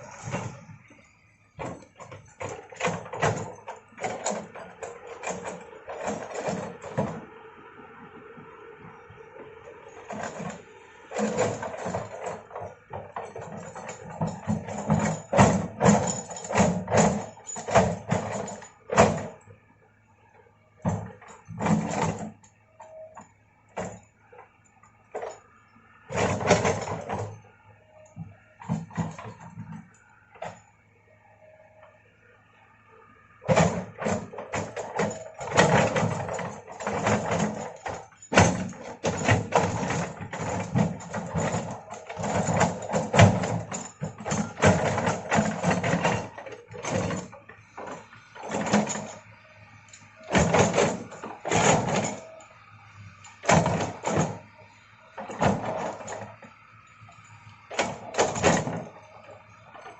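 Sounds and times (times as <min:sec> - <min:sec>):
excavator engine hum: 0:00.0 - 0:59.9.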